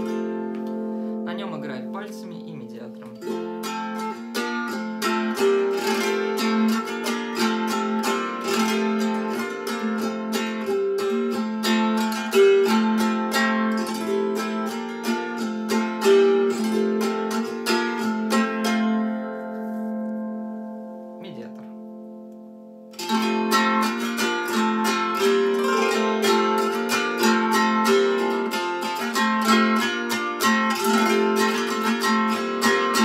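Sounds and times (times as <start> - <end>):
plucked psaltery strings ringing: 0.0 - 33.0.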